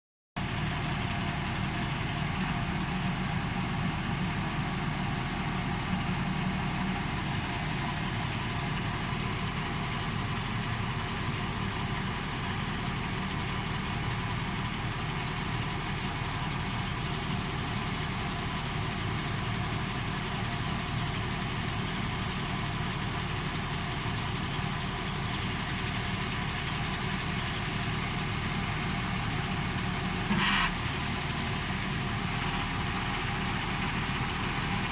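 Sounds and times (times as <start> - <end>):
backhoe engine running: 0.4 - 34.9.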